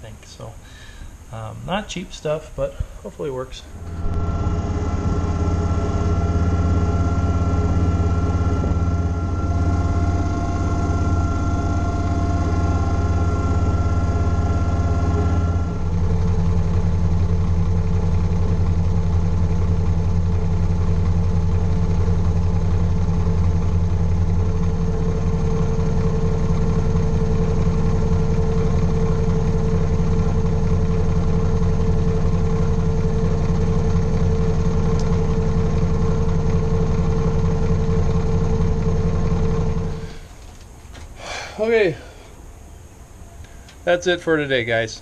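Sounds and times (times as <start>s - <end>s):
steady high whine: 0.0s - 45.0s
tractor diesel engine running: 3.2s - 44.8s.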